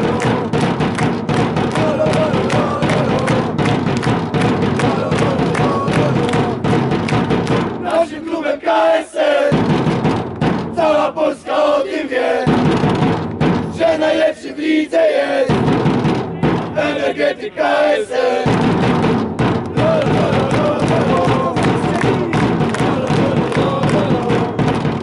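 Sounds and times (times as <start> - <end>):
supporters singing a chant: 0.0 - 9.7, 10.6 - 12.7, 13.5 - 15.7, 16.4 - 25.0.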